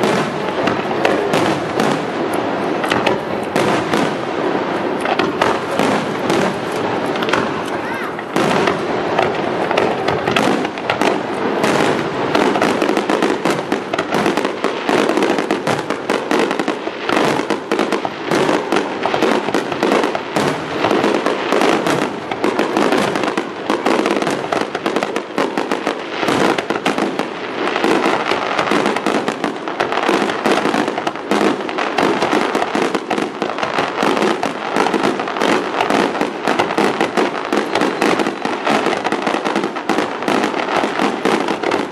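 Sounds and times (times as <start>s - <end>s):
fireworks banging in rapid volley: 0.0s - 41.9s.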